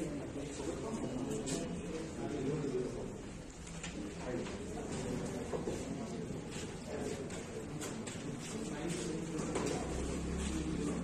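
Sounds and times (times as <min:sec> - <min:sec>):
murmur of people talking: 0:00.0 - 0:11.0.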